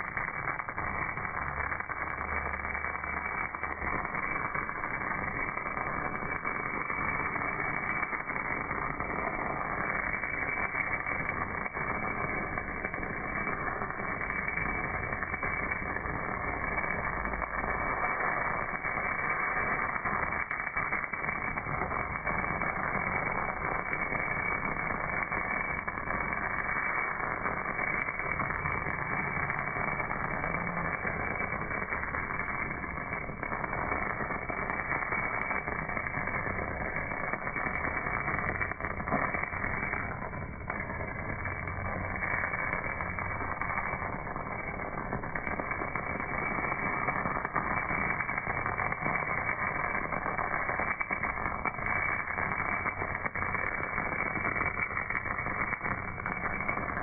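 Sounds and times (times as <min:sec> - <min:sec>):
welding arc crackling hiss: 0:00.0 - 0:57.0.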